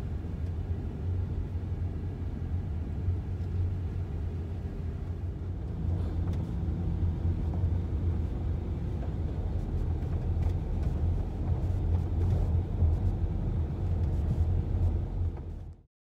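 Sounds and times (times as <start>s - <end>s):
car engine and road hum: 0.0s - 15.9s.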